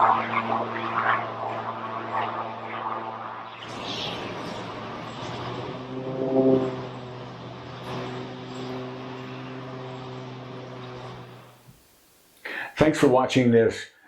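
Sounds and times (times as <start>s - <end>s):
engine humming with pitched tones: 0.0s - 12.3s.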